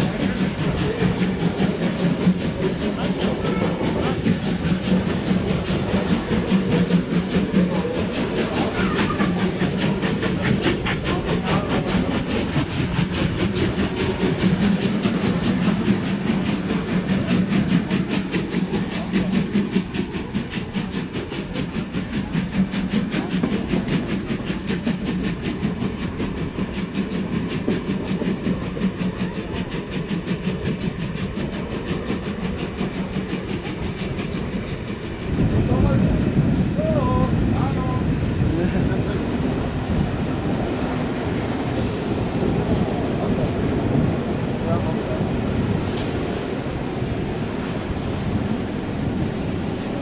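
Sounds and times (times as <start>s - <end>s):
train wheels on rails: 0.0s - 50.0s.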